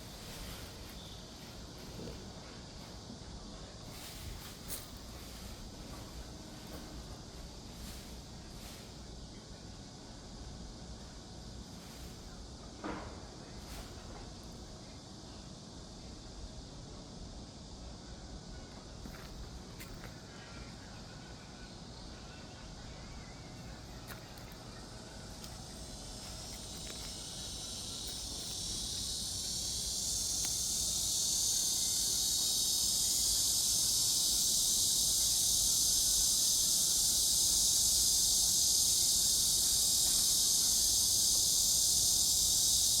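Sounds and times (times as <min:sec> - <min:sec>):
insects buzzing: 0:00.0 - 0:43.0.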